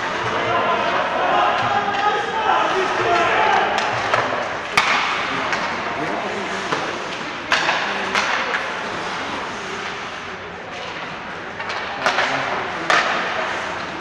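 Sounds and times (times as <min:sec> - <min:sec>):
indistinct voices: 0:00.0 - 0:14.0
hockey stick hitting puck: 0:00.1 - 0:06.0, 0:06.6 - 0:14.0.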